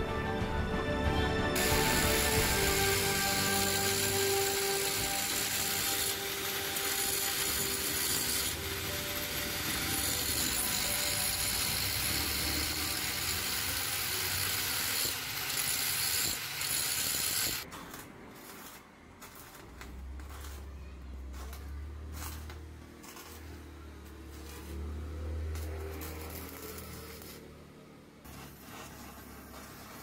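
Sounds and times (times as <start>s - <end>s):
workshop tool running: 1.6s - 30.0s.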